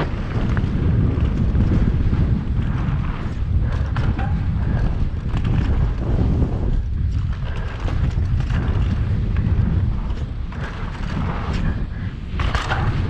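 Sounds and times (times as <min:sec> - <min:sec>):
bike rattling and knocking: 0:00.0 - 0:13.0
tyres rolling on dirt: 0:00.0 - 0:13.0
wind rushing over microphone: 0:00.0 - 0:13.0.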